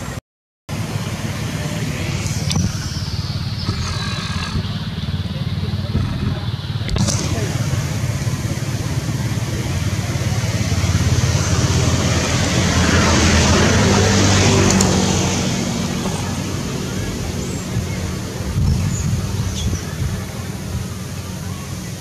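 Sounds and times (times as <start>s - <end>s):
road traffic noise: 0.0s - 22.0s
vehicle passing: 0.0s - 22.0s.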